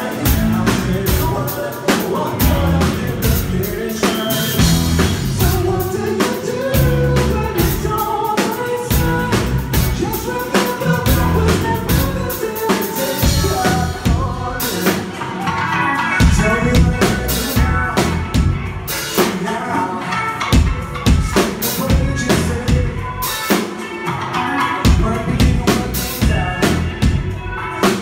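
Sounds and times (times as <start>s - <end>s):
drum kit beat: 0.0s - 28.0s
electric guitar: 0.0s - 28.0s
man singing: 0.0s - 28.0s.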